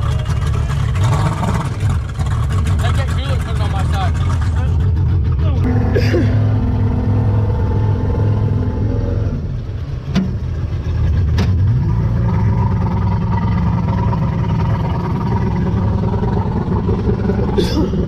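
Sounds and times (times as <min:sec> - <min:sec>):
boat engine revving: 0:00.0 - 0:18.0.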